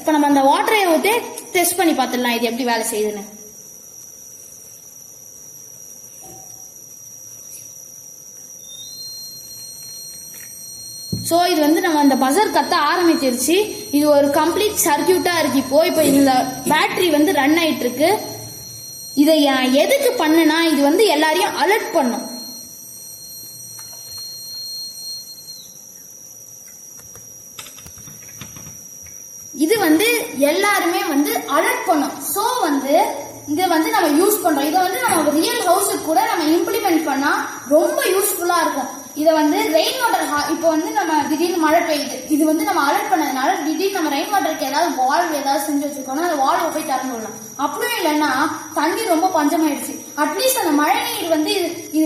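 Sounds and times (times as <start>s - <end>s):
buzzer high steady tone: 0.0s - 52.0s
high-pitched whine: 0.0s - 52.0s.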